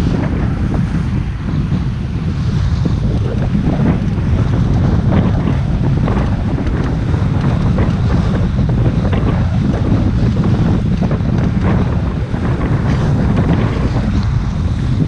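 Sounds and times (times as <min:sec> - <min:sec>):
motorboat engine and hull noise: 0:00.0 - 0:15.0
wind buffeting microphone: 0:00.0 - 0:15.0.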